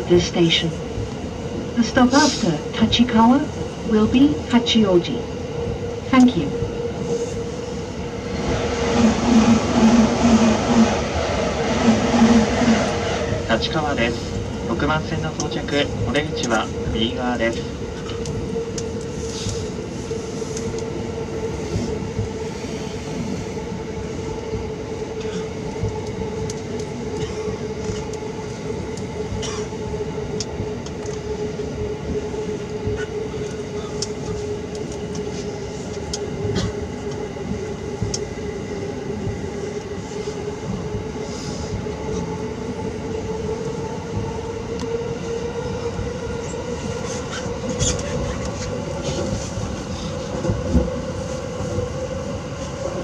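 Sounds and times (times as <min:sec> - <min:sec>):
electric train hum: 0:00.0 - 0:53.0
train wheels rumbling on rail: 0:00.0 - 0:53.0.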